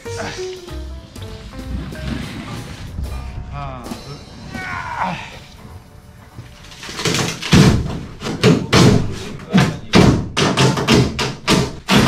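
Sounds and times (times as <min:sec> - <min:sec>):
heavy renovation thumps: 0:00.3 - 0:12.0.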